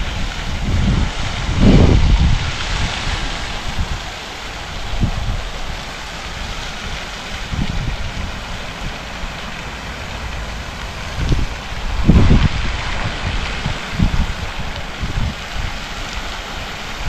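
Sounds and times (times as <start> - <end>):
steady hiss: 0.0 - 17.0
wind buffeting microphone: 0.0 - 17.0.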